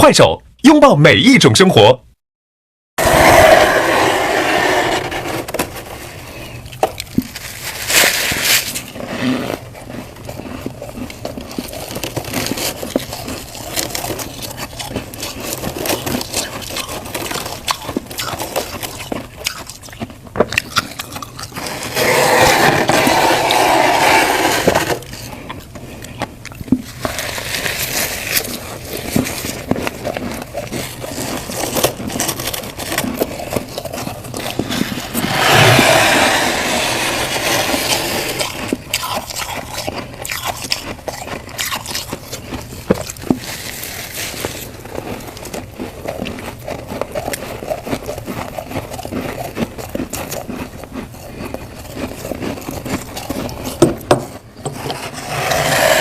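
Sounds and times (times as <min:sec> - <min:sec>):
crunching frost being chewed: 0:04.7 - 0:56.0.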